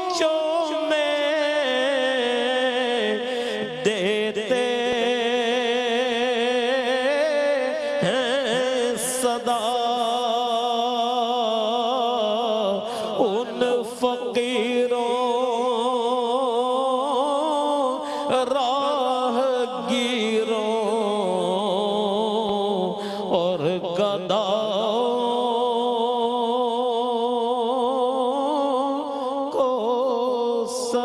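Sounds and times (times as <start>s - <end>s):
elderly man chanting: 0.0s - 31.0s.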